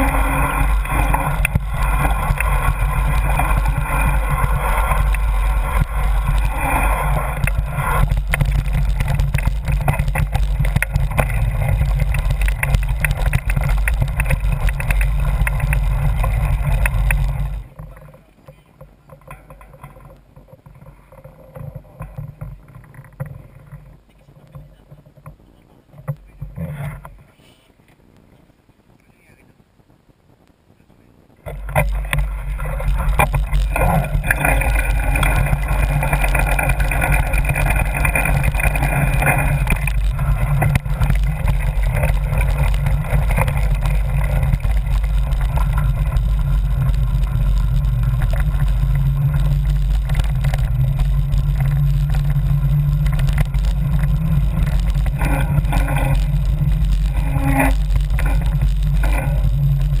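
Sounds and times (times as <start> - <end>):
bike rumbling and rattling on dirt: 0.0 - 27.4, 31.4 - 60.0.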